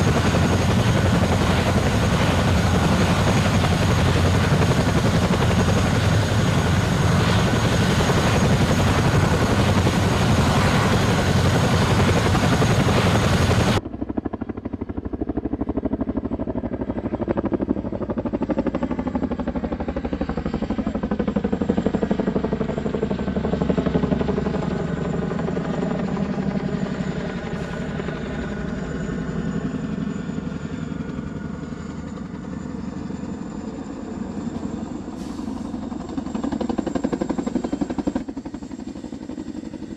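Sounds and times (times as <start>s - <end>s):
helicopter engines and rotor: 0.0s - 39.9s.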